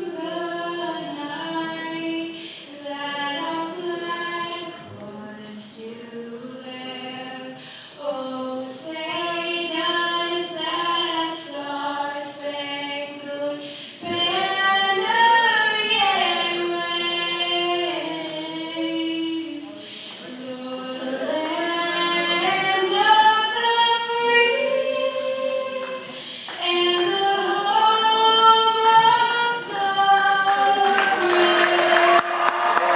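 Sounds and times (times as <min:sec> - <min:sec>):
woman singing a cappella: 0:00.0 - 0:32.8.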